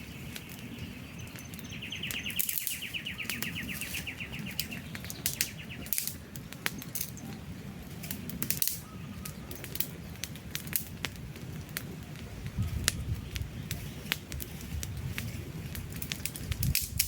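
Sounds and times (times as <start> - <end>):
campfire crackling and popping: 0.0 - 17.0
low rumble of flames: 0.0 - 17.0.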